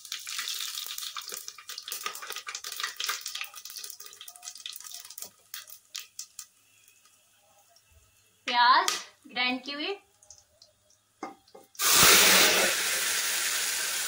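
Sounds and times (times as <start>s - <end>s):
spices sizzling in hot oil: 0.0s - 8.8s, 9.4s - 14.0s.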